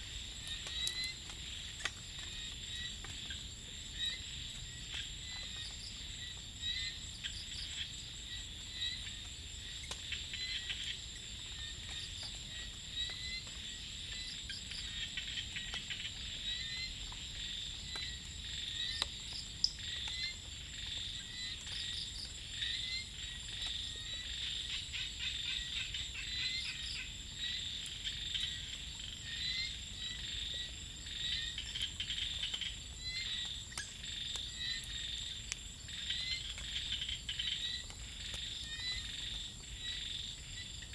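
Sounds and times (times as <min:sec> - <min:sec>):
frogs chirping and clicking: 0:00.0 - 0:40.9.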